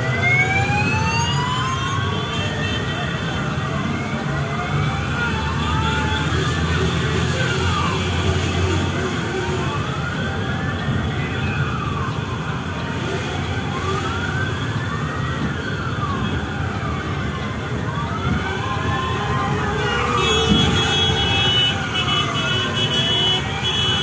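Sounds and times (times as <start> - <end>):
police siren wailing: 0.0 - 24.0.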